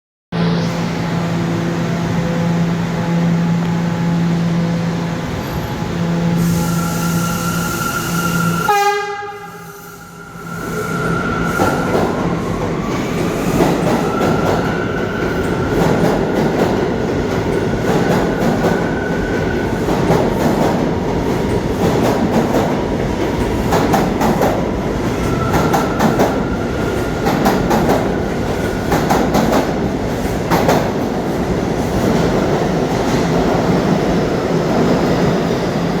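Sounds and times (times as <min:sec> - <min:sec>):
subway train rumble: 0:00.3 - 0:36.0.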